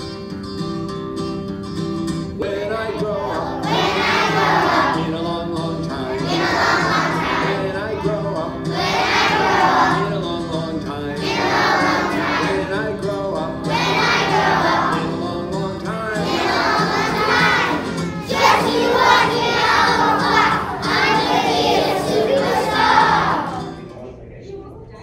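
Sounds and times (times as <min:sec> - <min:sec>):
instrumental accompaniment: 0:00.0 - 0:23.9
children singing in unison: 0:02.4 - 0:10.4, 0:11.0 - 0:23.8.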